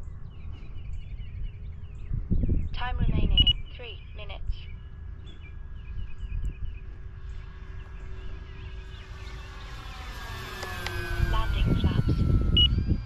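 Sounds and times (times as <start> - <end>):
distant rc plane motor hum: 0.0 - 2.7, 3.4 - 13.0
small birds chirping: 0.0 - 12.8
wind rumble on microphone: 0.0 - 13.0.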